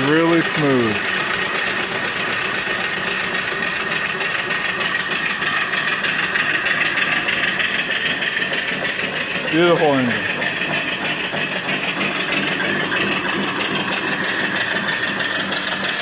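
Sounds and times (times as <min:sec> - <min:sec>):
steam engine beat: 0:00.0 - 0:16.0.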